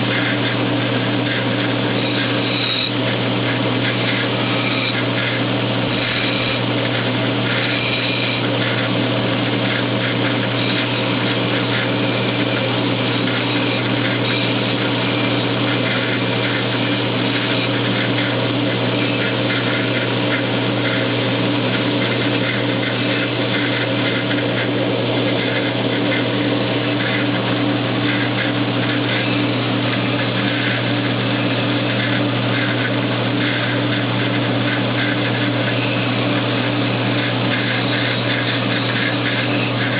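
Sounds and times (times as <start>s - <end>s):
belt grinder motor humming: 0.0s - 39.9s
knife grinding on belt: 0.1s - 0.4s, 1.2s - 36.1s, 36.8s - 39.9s.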